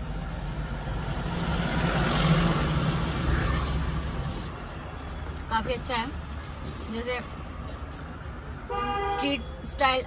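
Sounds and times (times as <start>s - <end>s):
road traffic rumble: 0.0s - 10.0s
vehicle passing: 0.4s - 8.7s.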